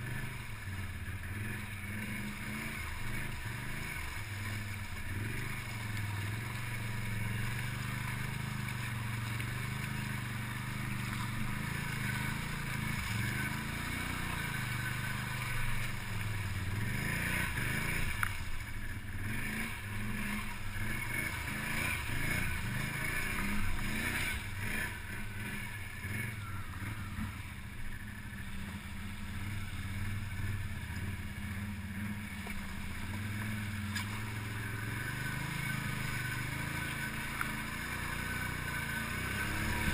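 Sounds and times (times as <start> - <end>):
atv engine revving: 0.0 - 39.9
mud and water splashing: 0.0 - 39.9.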